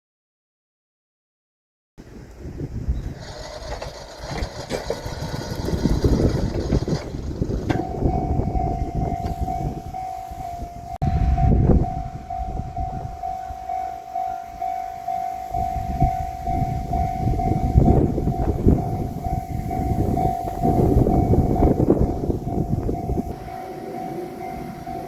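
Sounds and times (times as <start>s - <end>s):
low rumbling noise: 2.0s - 25.0s
railroad crossing alarm pulsing: 3.0s - 25.0s.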